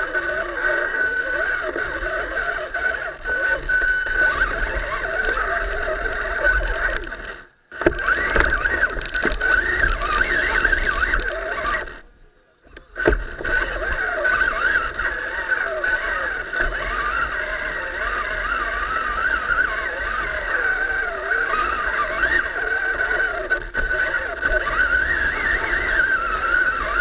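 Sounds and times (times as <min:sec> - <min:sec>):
toy truck motor and gears whining: 0:00.0 - 0:12.1, 0:12.7 - 0:27.0.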